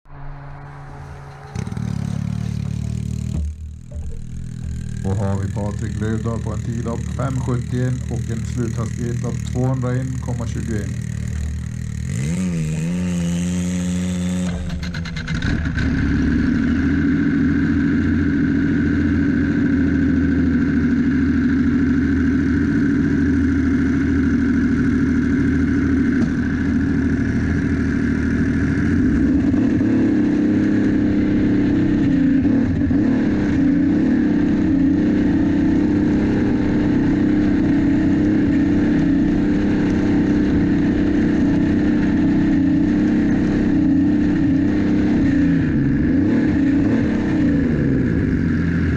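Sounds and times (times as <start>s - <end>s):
racing snowmobile engine revving: 0.1s - 48.9s.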